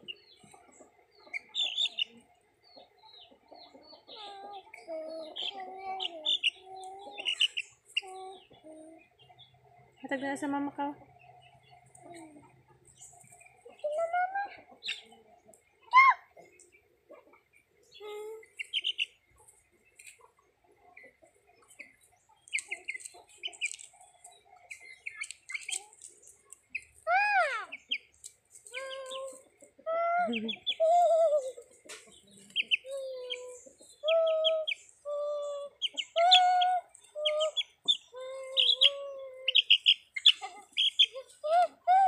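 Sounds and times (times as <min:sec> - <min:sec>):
high chick peeps: 0:00.0 - 0:42.0.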